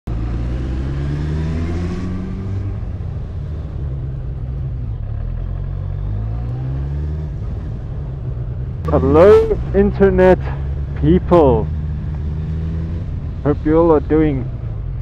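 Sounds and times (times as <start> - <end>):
motorcycle engine riding: 0.1 - 15.0.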